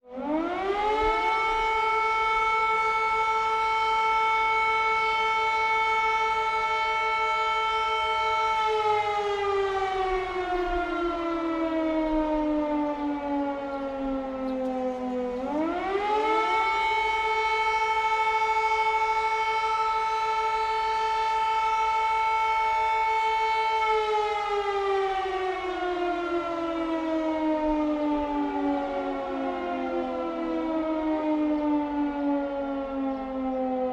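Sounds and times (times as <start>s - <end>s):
air raid siren wailing: 0.0s - 33.9s.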